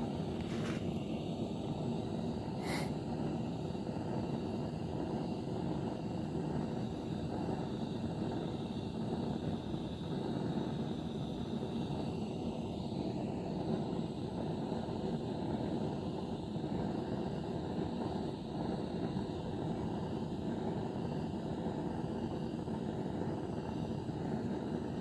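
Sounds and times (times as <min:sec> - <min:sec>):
gas blowtorch burning: 0:00.0 - 0:25.0.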